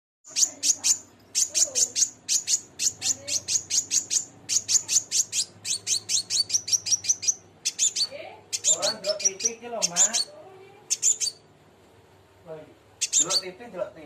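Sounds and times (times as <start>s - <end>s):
bird chirping rapidly: 0.3s - 11.5s, 12.9s - 13.6s.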